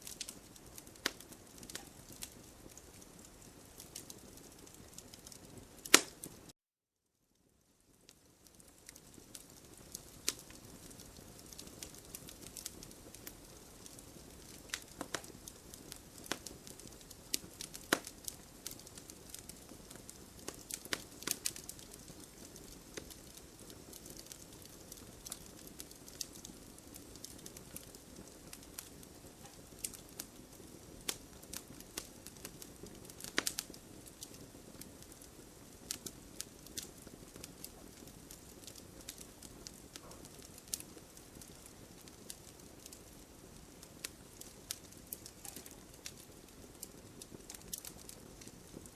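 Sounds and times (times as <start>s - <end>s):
low steady hiss: 0.0s - 6.5s, 7.1s - 48.9s
wood crackling and popping: 0.0s - 6.5s, 7.4s - 48.9s.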